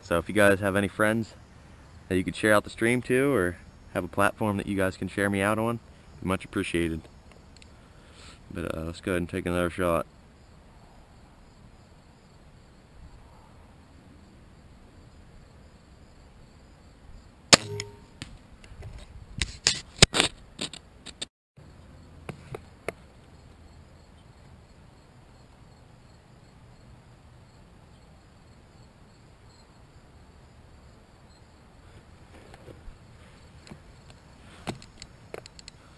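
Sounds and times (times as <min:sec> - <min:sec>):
insects chirring: 0:00.1 - 0:18.2, 0:21.6 - 0:35.9.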